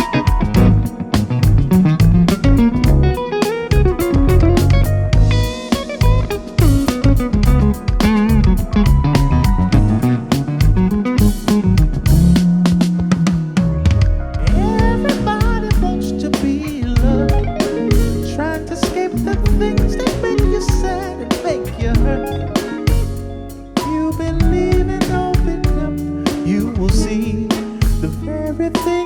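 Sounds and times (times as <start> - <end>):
bending melodic lead line: 0.0 - 29.0
live band playing: 0.0 - 29.0.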